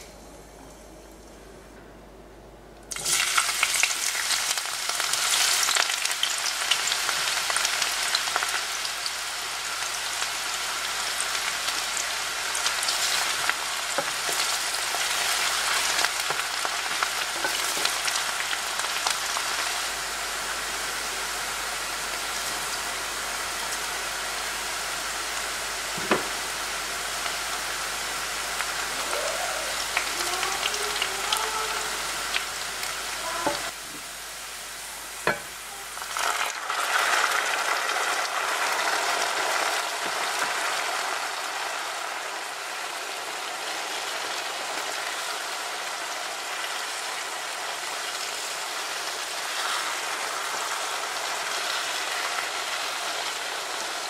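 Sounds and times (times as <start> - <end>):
onion and garlic sizzling in oil: 2.9 - 54.0.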